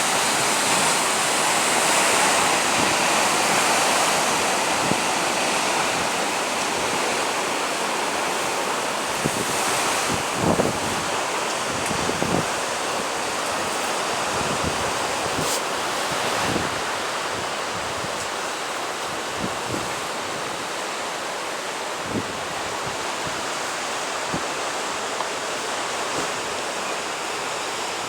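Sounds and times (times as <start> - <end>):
sea surf washing: 0.0 - 28.0.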